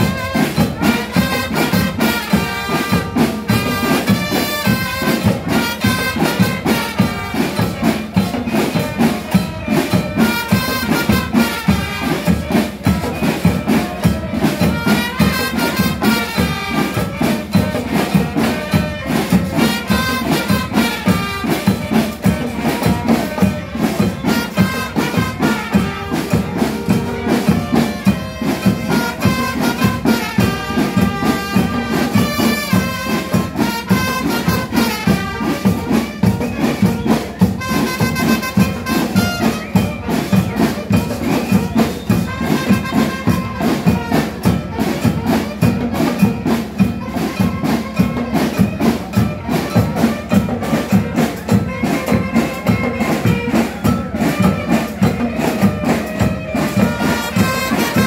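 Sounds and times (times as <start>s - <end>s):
brass melody: 0.0s - 58.0s
driving drumming: 0.0s - 58.0s.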